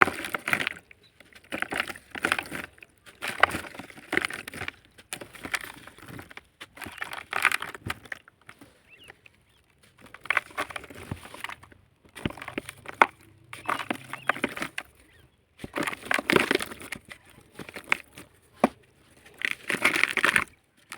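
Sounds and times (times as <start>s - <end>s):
cement lumps crunching into water: 0.0s - 20.9s.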